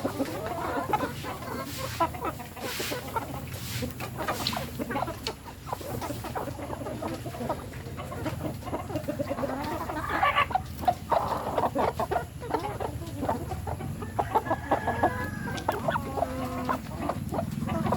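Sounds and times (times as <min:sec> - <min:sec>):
chickens clucking: 0:00.0 - 0:17.9.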